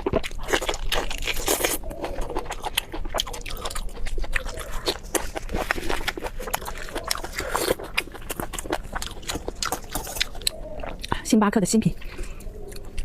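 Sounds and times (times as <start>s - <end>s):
person chewing food: 0.0s - 11.2s, 12.0s - 13.0s
mouth clicks and smacks: 0.0s - 11.3s.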